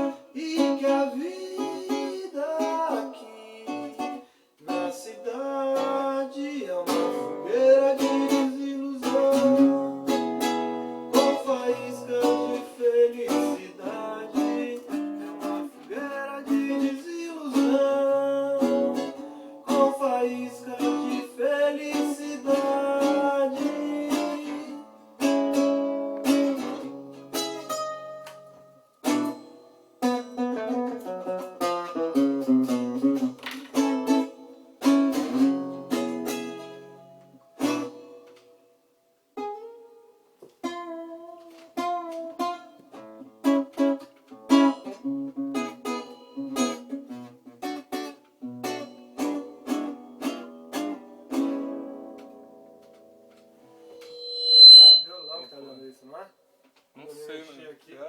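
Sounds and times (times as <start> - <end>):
acoustic guitar picking: 0.0 - 38.6, 39.4 - 55.7.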